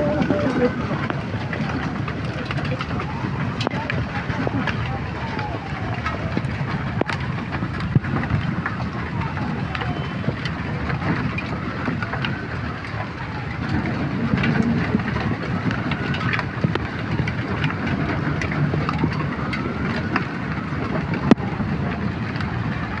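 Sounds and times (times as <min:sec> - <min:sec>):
hail striking hard surfaces: 0:00.0 - 0:23.0.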